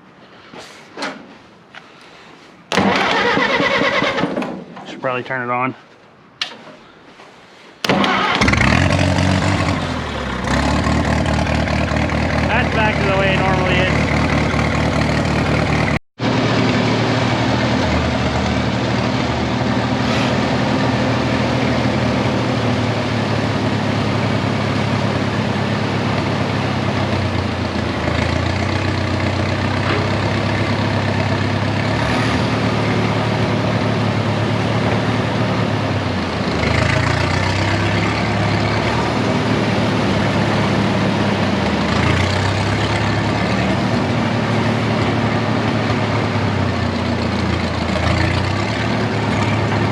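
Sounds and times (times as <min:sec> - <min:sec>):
tractor engine running: 0:02.7 - 0:05.2, 0:07.8 - 0:49.9.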